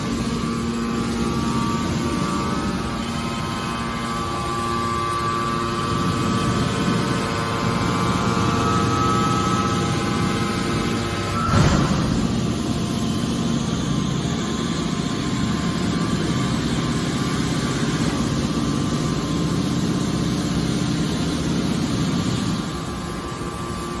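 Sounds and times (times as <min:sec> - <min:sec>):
hydraulic pump hum and whine: 0:00.0 - 0:24.0.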